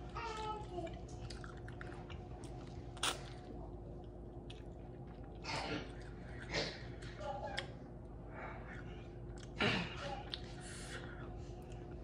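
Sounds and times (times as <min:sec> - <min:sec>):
chewing fried chicken: 0:00.0 - 0:12.0.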